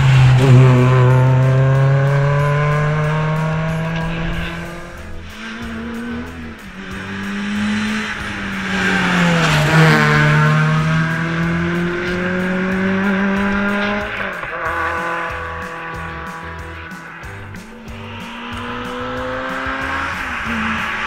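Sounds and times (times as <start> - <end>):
rally car engine passing: 0.0 - 21.0.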